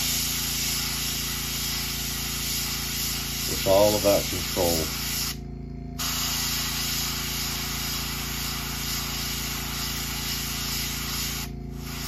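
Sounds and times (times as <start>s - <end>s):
airbrush spraying hiss: 0.0s - 12.0s.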